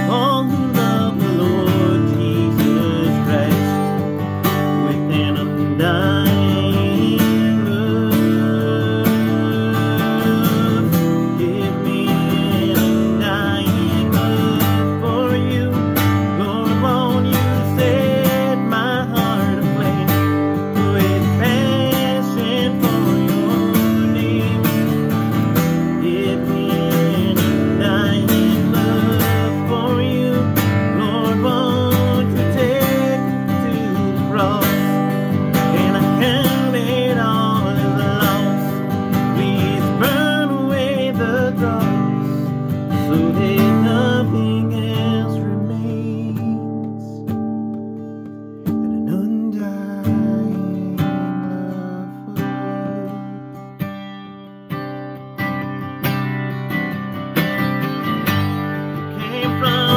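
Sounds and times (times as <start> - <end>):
man singing worship song: 0.0 - 4.0, 4.7 - 25.2, 25.9 - 47.2, 48.9 - 53.2, 59.2 - 59.9
acoustic guitar strumming chords: 0.0 - 59.9.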